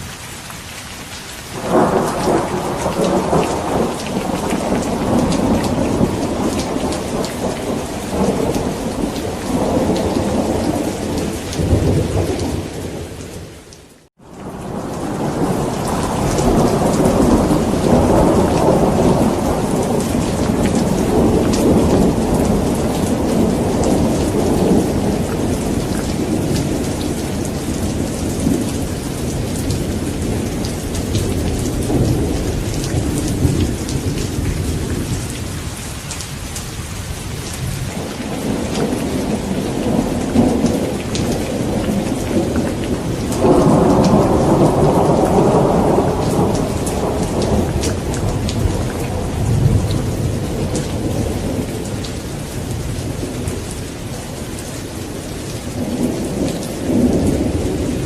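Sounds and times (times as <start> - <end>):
heavy rain: 0.0 - 58.0
deep rumbling thunder: 1.6 - 13.3, 14.4 - 35.8, 37.3 - 53.7, 55.7 - 58.0.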